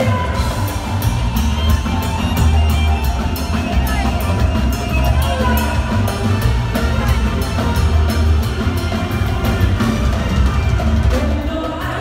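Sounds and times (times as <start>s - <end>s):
drum kit beat: 0.0s - 12.0s
live band music over a pa: 0.0s - 12.0s.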